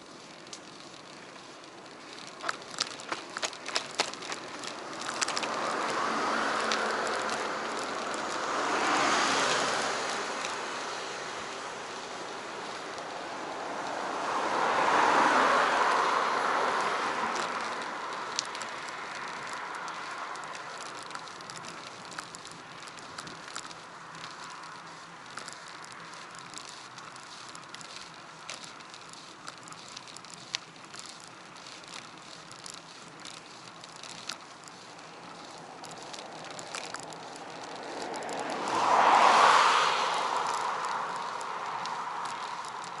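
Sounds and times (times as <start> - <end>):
small clicks and rattles: 0.0 - 14.0, 15.7 - 43.0
bicycle riding whoosh: 0.0 - 43.0.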